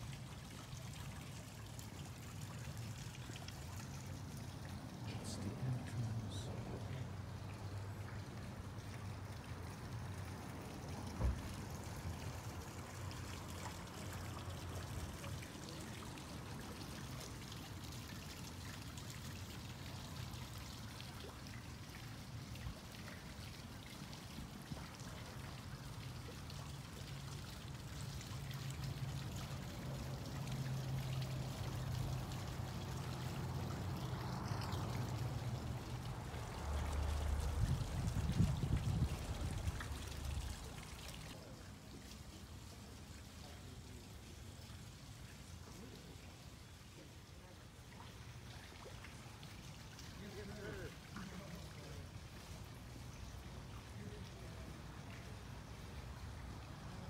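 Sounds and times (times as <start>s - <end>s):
fountain water trickling and splashing: 0.0s - 57.0s.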